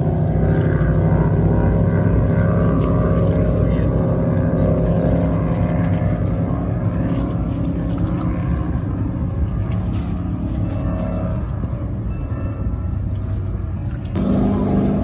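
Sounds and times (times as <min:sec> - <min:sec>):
powerboat engines droning: 0:00.0 - 0:15.0.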